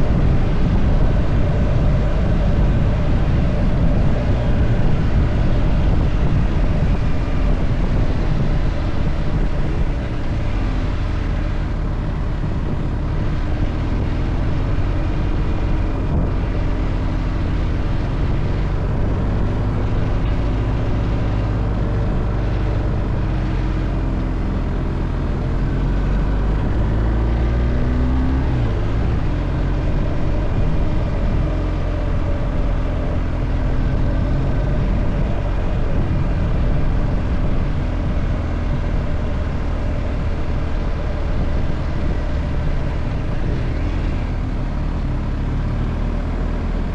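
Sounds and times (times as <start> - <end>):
car engine: 0.0 - 46.9
road noise: 0.0 - 46.9.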